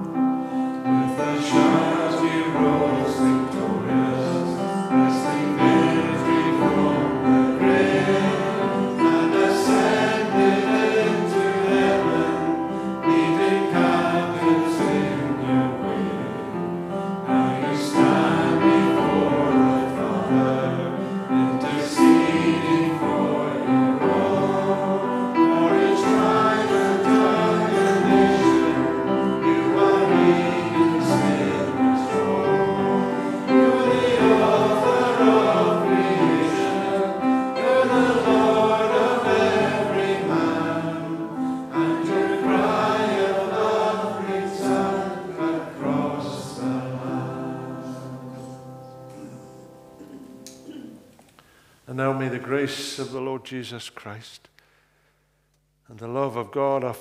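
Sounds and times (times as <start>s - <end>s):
many voices singing a hymn: 0.0s - 50.9s.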